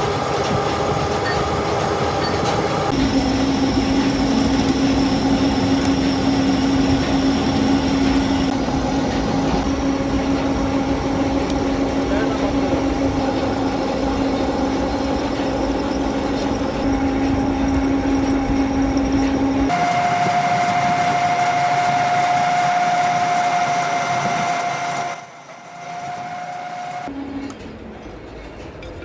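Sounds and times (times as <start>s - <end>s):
machine whine and hiss: 0.0s - 27.2s
factory machinery humming: 0.0s - 28.8s.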